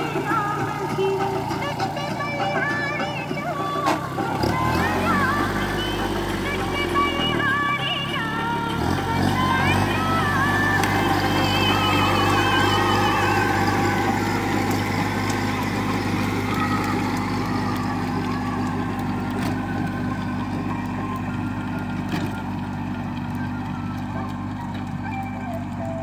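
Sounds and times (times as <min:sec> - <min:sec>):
rotary tiller churning soil: 0:00.0 - 0:26.0
tractor diesel engine running: 0:00.0 - 0:26.0.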